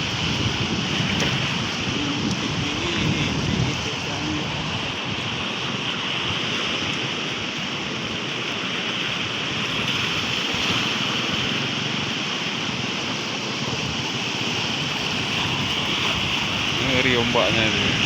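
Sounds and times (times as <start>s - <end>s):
surf waves breaking: 0.0s - 18.0s.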